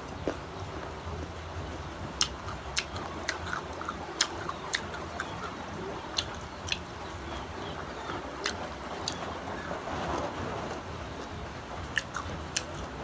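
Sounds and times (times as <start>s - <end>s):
crunchy chewing of mango: 0.0s - 13.0s.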